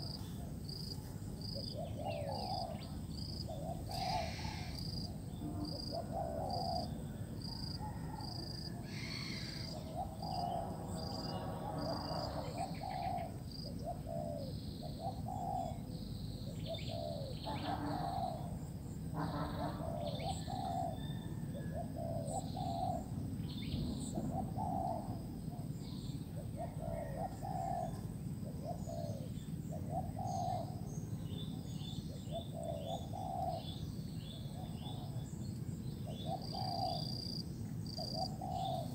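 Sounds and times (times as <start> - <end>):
dove cooing: 1.3 - 18.6, 19.2 - 31.0, 31.6 - 33.8, 34.4 - 35.3, 36.0 - 38.9.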